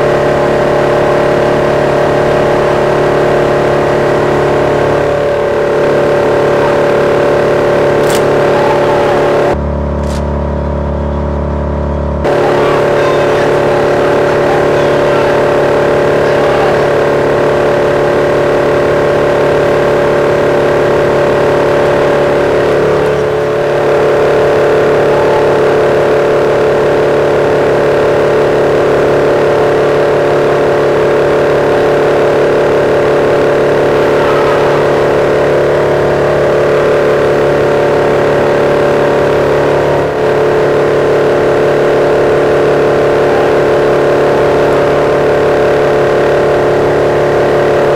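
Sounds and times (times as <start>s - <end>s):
shredding machine running: 0.0s - 47.9s.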